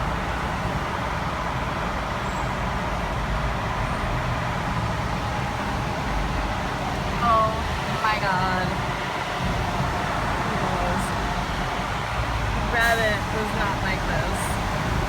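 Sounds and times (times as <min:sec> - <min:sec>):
car road rumble: 0:00.0 - 0:15.0
heavy rain: 0:00.0 - 0:15.0.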